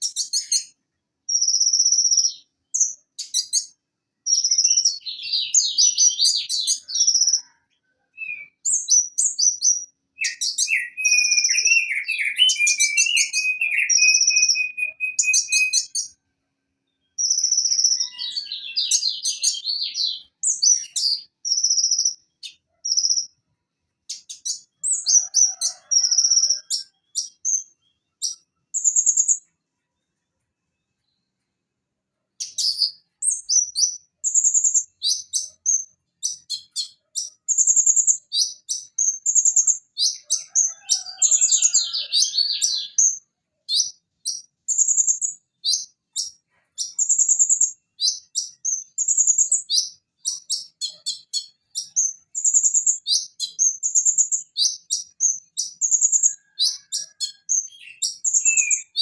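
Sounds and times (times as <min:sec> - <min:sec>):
sunbird chirping and trilling: 0:00.0 - 0:16.2, 0:16.8 - 0:30.1, 0:32.3 - 0:59.0.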